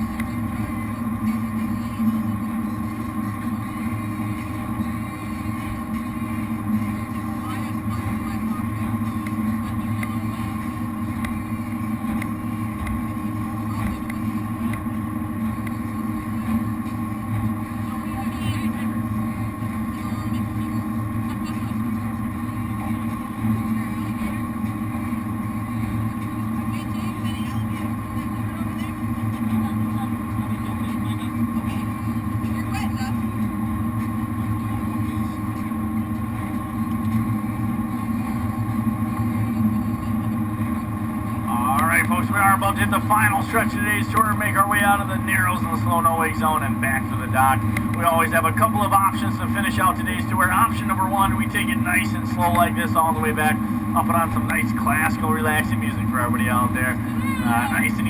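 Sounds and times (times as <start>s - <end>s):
boat engines droning: 0.0s - 58.0s.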